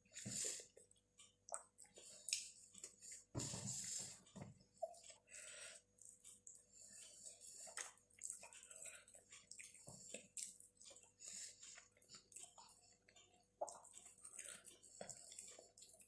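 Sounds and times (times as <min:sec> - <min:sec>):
chewing and wet mouth sounds: 0:00.1 - 0:03.3, 0:04.0 - 0:16.0.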